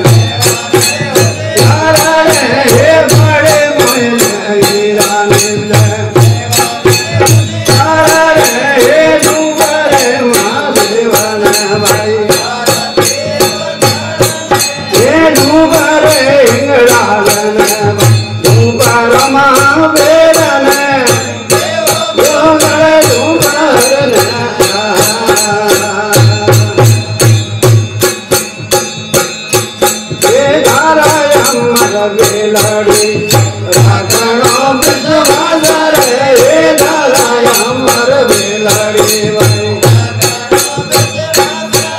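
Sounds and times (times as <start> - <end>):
man singing devotional song: 0.0 - 41.9
rattling percussion beat: 0.0 - 41.9.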